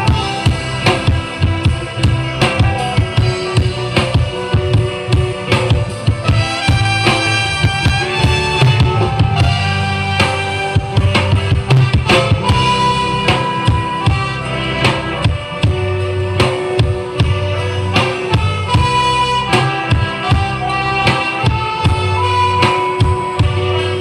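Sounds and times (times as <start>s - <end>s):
loud music with drums and bass: 0.0s - 24.0s.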